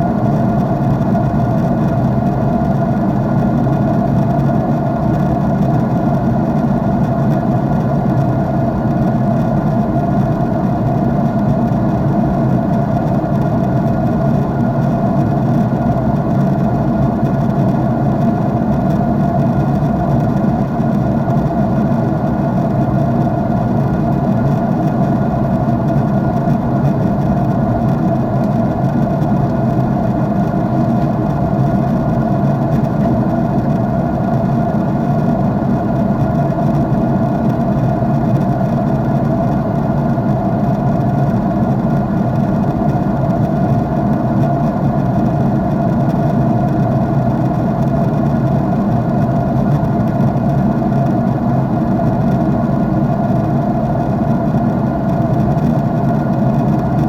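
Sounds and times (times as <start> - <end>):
jet airliner cabin drone: 0.0 - 57.0.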